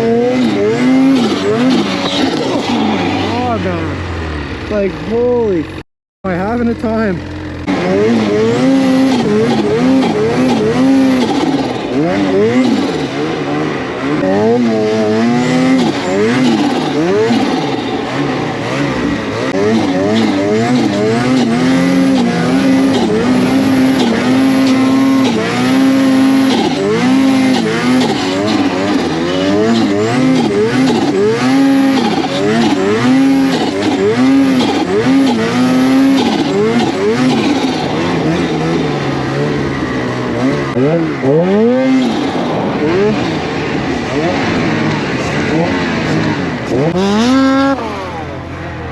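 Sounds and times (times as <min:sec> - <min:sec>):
snowmobile engine revving: 0:00.0 - 0:48.9.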